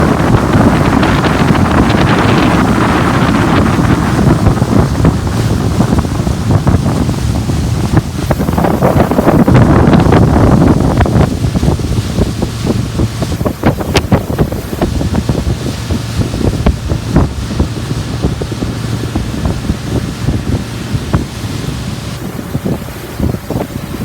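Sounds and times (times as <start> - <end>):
waves splashing: 0.0 - 24.0
wind rumbling on microphone: 0.0 - 24.0.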